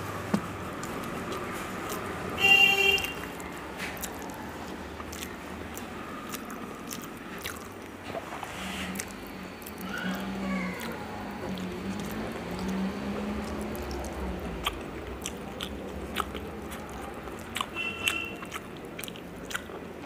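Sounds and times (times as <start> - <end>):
person chewing: 0.1 - 20.0.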